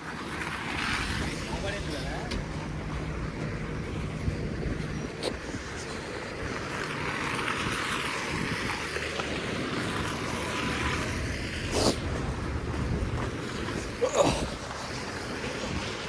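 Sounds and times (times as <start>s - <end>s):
tyres hissing on snowy road: 0.0s - 16.0s
low engine rumble: 0.3s - 16.0s.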